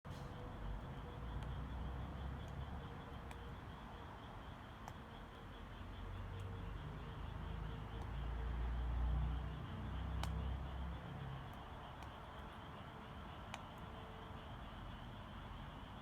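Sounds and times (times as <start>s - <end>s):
low fire rumble: 0.1s - 16.0s.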